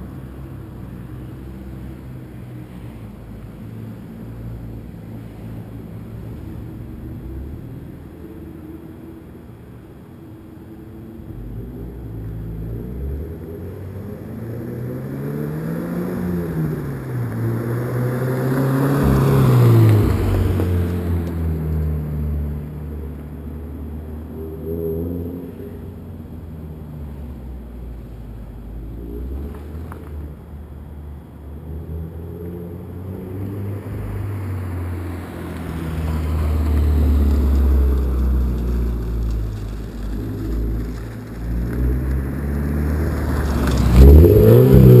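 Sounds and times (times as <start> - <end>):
car engine revving: 2.7 - 45.0.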